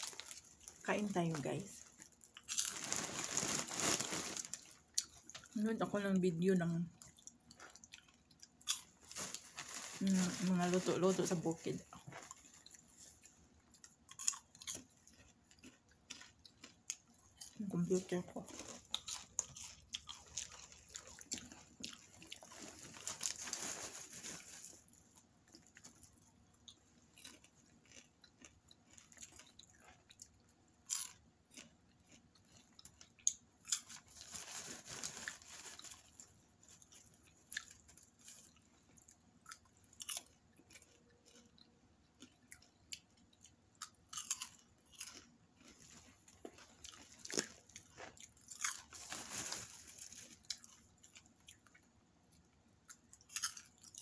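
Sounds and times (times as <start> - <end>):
person chewing popcorn: 0.0 - 5.6, 6.9 - 10.2, 10.8 - 54.0.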